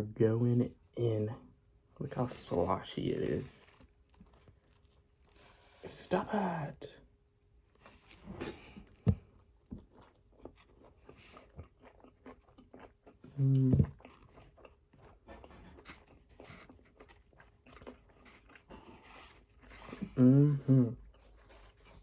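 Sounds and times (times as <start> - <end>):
wet chewing and smacking: 2.1 - 5.8, 7.6 - 22.0.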